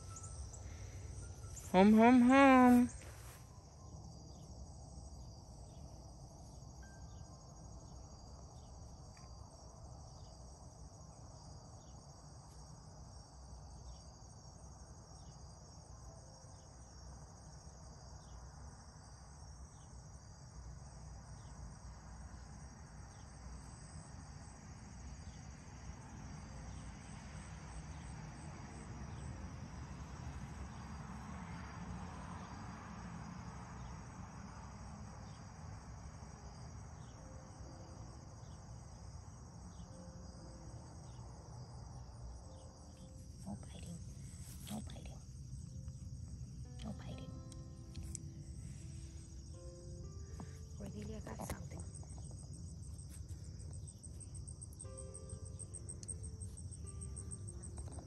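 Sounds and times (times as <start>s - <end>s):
crickets trilling: 0.0s - 58.0s
low outdoor hum: 0.0s - 58.0s.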